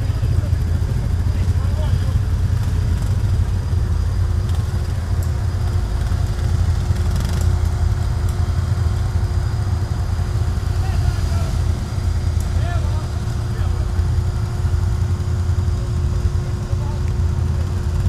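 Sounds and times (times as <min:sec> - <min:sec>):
atv engines rumbling: 0:00.0 - 0:18.0.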